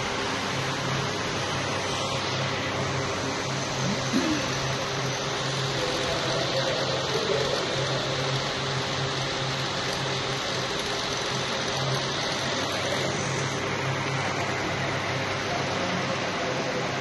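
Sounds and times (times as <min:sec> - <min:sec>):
conveyor humming and whirring: 0:00.0 - 0:17.0.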